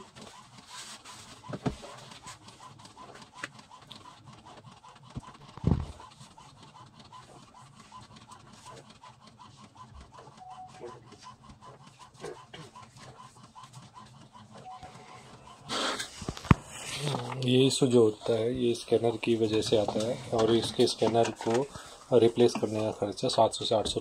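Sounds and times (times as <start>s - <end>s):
printer mechanism ticking: 1.3s - 24.0s.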